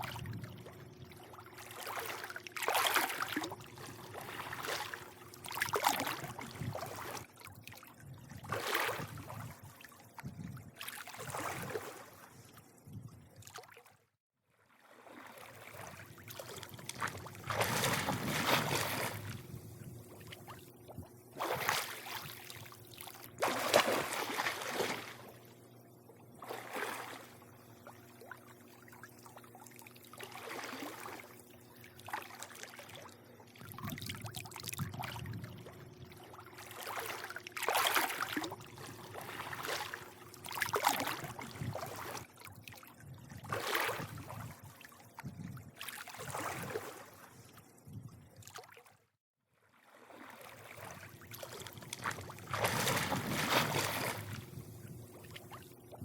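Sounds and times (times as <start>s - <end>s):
faint steady hum: 0.0s - 13.6s, 14.9s - 48.4s, 50.0s - 56.0s
pool water lapping and sloshing: 0.0s - 56.0s.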